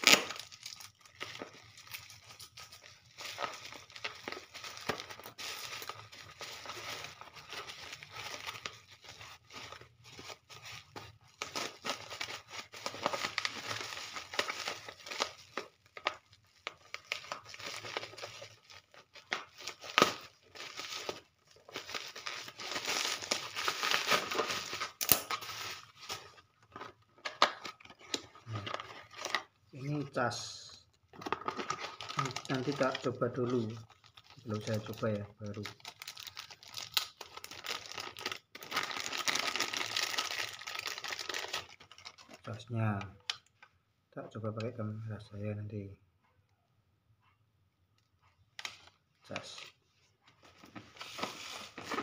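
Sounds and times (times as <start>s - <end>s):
plastic wrapping crinkling and tearing: 0.0s - 30.2s, 31.0s - 43.6s, 48.6s - 52.0s.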